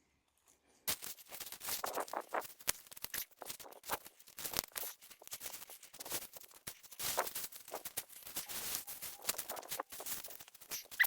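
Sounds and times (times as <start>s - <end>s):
dry leaves rustling and crackling: 0.9s - 11.0s.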